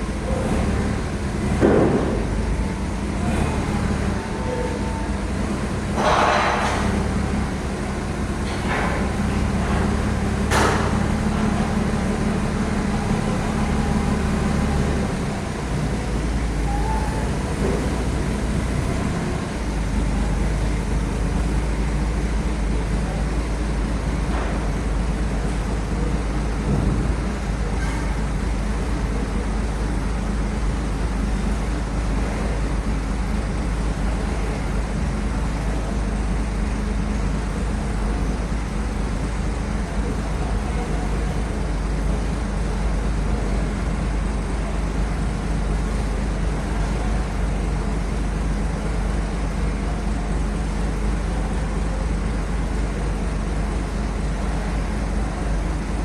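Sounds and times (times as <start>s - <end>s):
heavy truck engine running: 0.0s - 56.0s.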